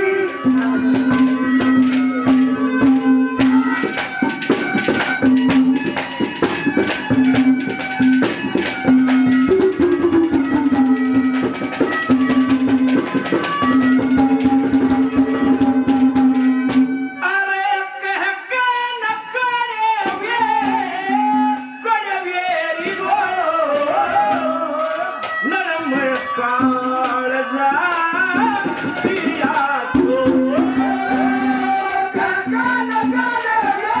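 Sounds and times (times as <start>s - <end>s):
hand drum strokes: 0.0s - 17.0s, 22.8s - 34.0s
folk melody line: 0.0s - 17.2s, 20.1s - 34.0s.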